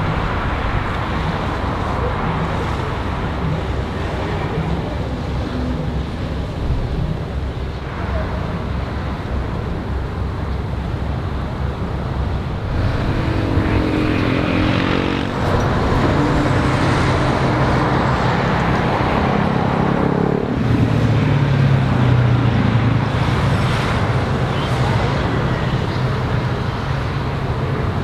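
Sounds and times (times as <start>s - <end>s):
road traffic hum: 0.0s - 28.0s
vehicle engines passing: 0.0s - 28.0s.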